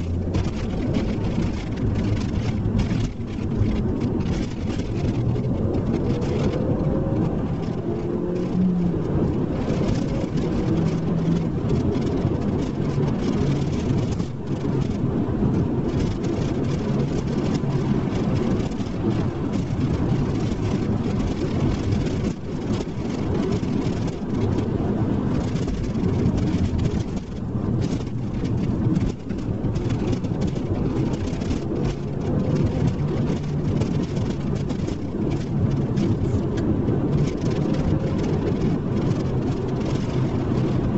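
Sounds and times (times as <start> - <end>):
car engine running: 0.0 - 40.9
road and tyre noise: 0.0 - 40.9.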